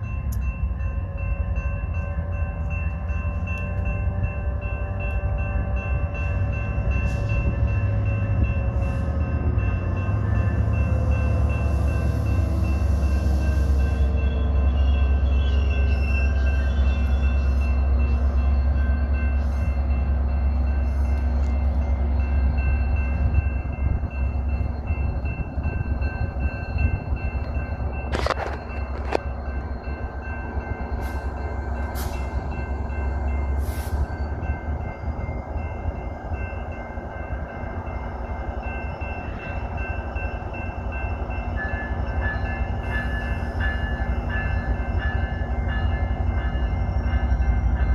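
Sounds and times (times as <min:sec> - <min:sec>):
diesel locomotive engine rumble: 0:00.0 - 0:47.9.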